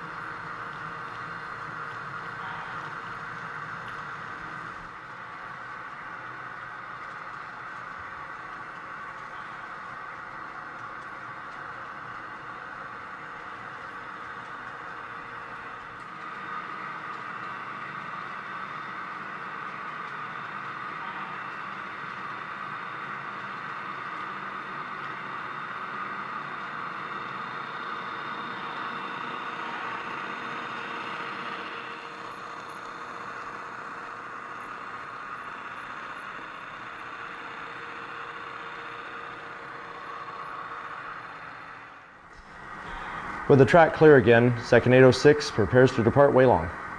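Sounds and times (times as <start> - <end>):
model train whirring on rails: 0.0 - 46.9.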